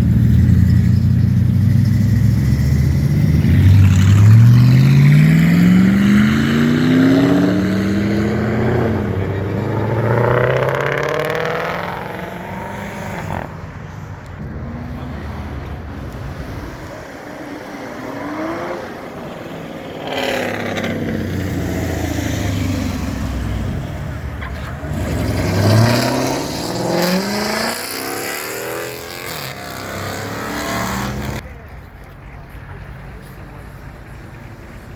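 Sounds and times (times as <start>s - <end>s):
cars revving past: 0.0s - 31.4s.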